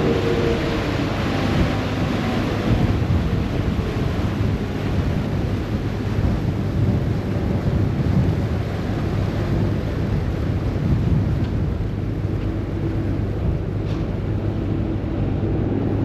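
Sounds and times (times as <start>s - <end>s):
water rushing in boat wake: 0.0s - 16.0s
wind buffeting microphone: 0.0s - 16.0s.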